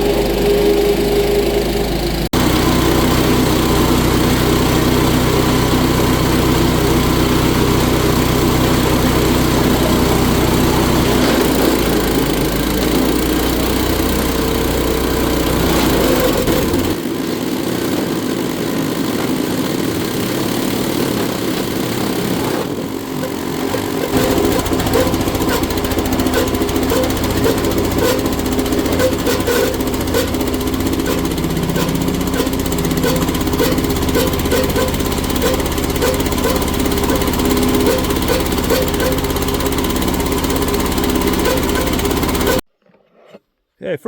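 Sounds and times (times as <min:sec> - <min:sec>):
wood chipper engine running: 0:00.0 - 0:42.6.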